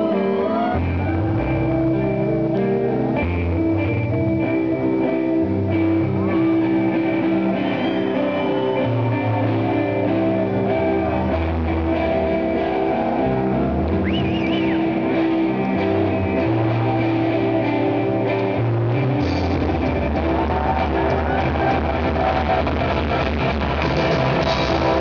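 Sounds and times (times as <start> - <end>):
bass notes: 0.0 - 25.0
drums: 0.0 - 25.0
electric guitar: 0.0 - 25.0.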